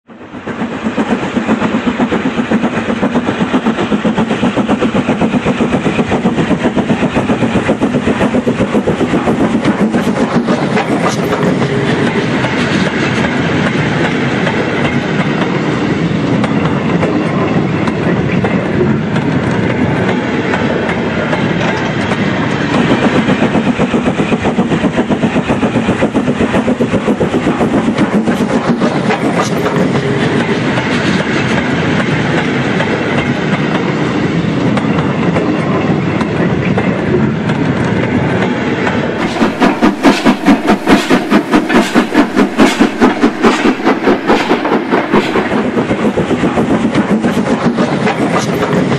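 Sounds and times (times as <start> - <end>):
model train clickety-clack: 0.1 - 48.9.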